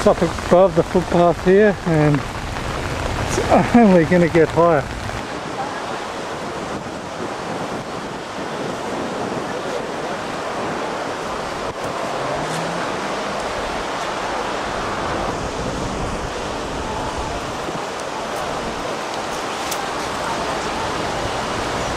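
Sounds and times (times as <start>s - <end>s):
river water rushing: 0.0s - 21.9s
wind buffeting microphone: 0.0s - 21.9s.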